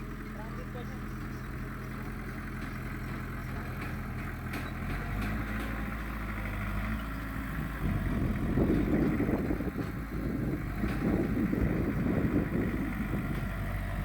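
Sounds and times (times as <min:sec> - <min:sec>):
diesel engine running: 0:00.0 - 0:14.0
rough rumble: 0:02.2 - 0:14.0.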